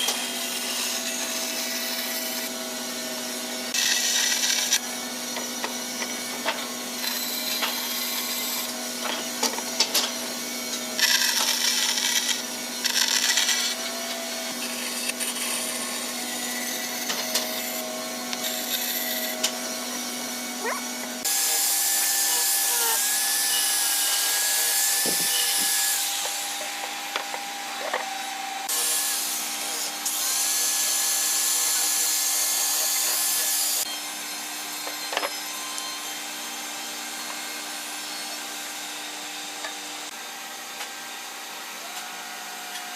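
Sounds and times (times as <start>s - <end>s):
power tools cutting and sanding wood: 0.0s - 42.9s.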